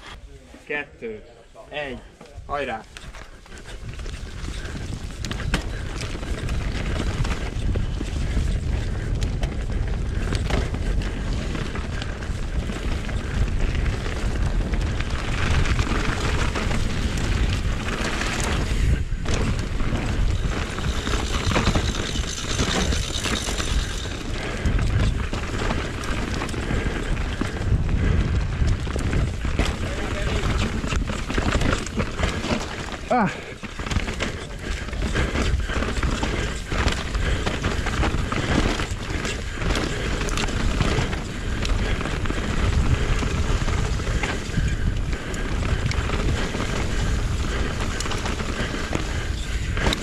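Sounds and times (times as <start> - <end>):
mountain bike rattle and tyre noise: 0.0 - 50.0
wind on camera microphone: 2.3 - 50.0.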